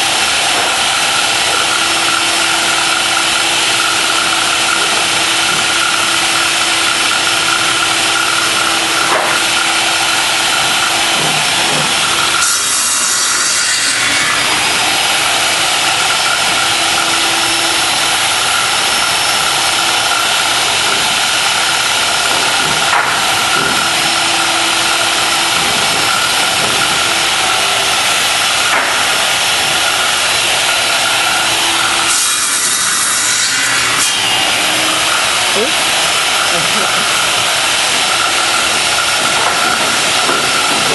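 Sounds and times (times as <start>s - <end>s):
power saw cutting wood: 0.0s - 40.9s.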